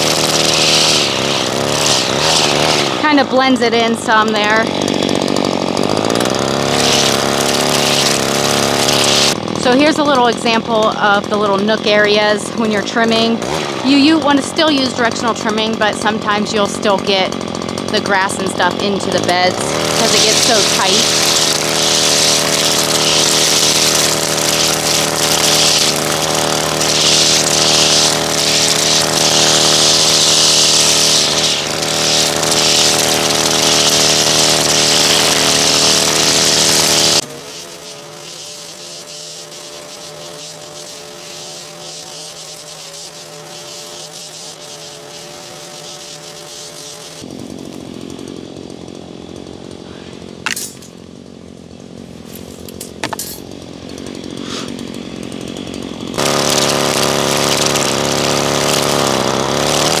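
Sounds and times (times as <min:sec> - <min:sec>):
string trimmer whining: 0:00.0 - 1:00.0.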